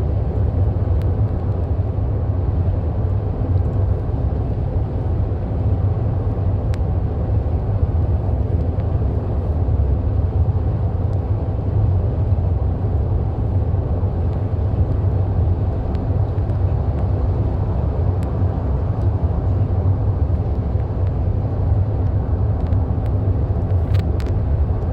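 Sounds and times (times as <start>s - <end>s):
car road and engine rumble: 0.0s - 24.9s.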